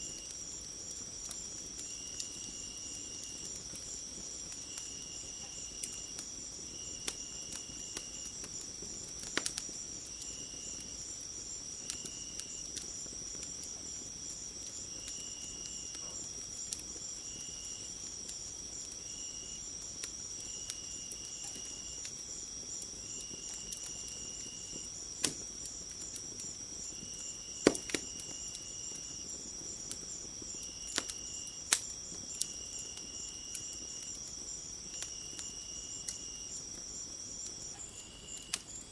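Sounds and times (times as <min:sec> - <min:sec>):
crickets chirring: 0:00.0 - 0:38.9
wood fire crackling: 0:00.0 - 0:38.9.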